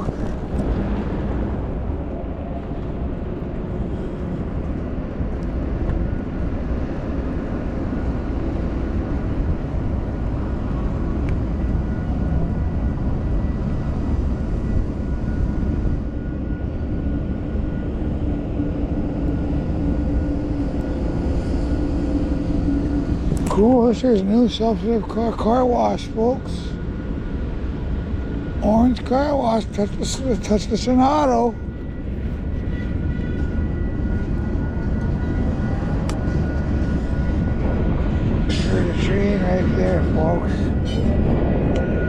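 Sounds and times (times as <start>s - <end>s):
faint steady whines: 0.0s - 42.0s
wind and motion rumble: 0.0s - 42.0s.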